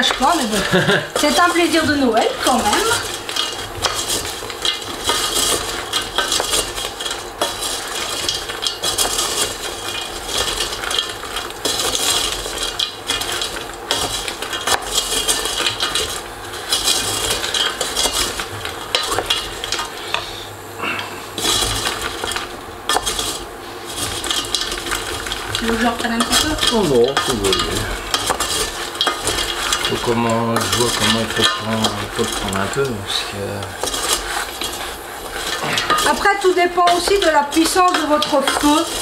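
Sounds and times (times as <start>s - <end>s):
spoon stirring nuts in a pan: 0.0s - 20.4s, 21.3s - 39.0s.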